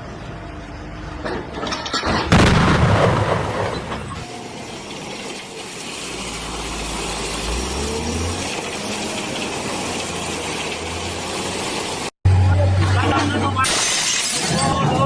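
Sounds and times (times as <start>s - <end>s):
engine rumbling: 0.0s - 13.7s.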